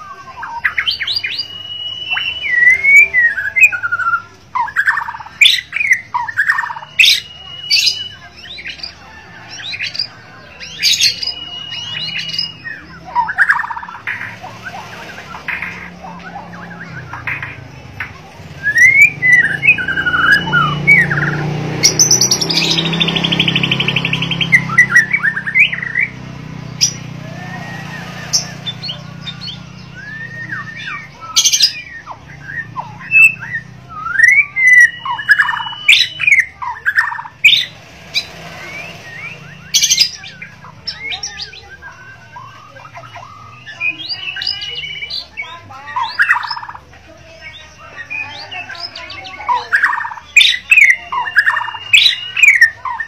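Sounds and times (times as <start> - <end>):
bird singing whistled phrases: 0.0 - 9.0, 9.7 - 17.5, 18.6 - 37.8, 38.6 - 53.0.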